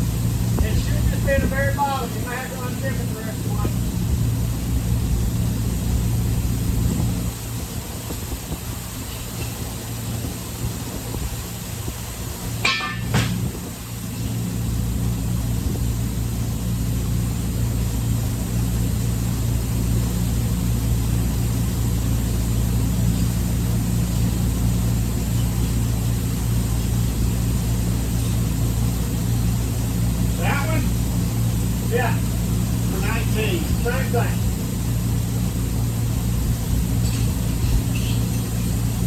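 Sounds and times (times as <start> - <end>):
engine idling: 0.0 - 39.0.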